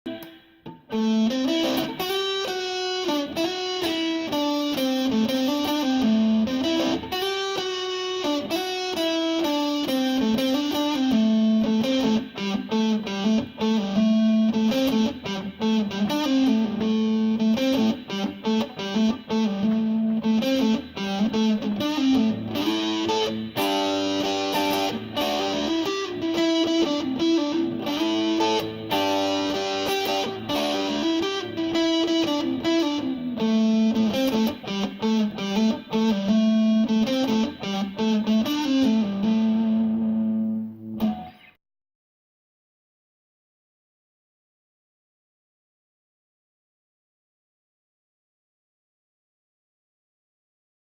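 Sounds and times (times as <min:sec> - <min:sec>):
overdriven electric guitar melody: 0:00.1 - 0:41.6.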